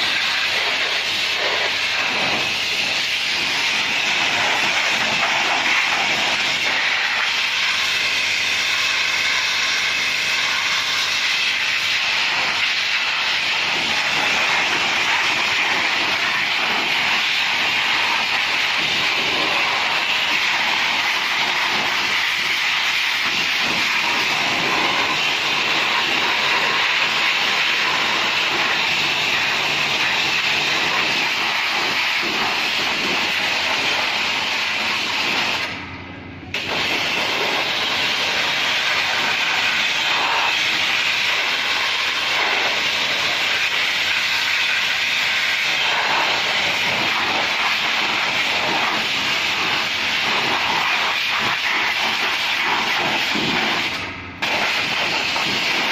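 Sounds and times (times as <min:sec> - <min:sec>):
pressure washer spraying: 0:00.0 - 0:35.9, 0:36.5 - 0:55.9.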